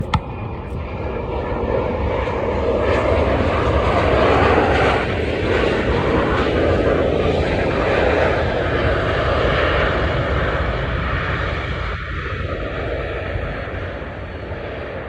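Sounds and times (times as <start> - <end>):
airliner engines drone: 0.0 - 15.0.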